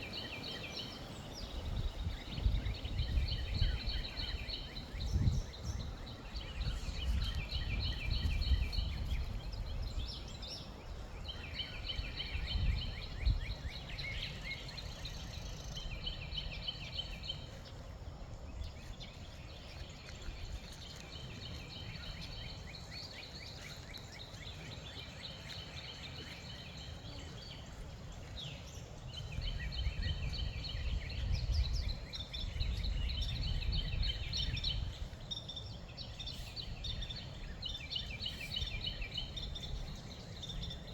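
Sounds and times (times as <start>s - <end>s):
wind buffeting microphone: 0.0s - 24.8s, 25.8s - 40.9s.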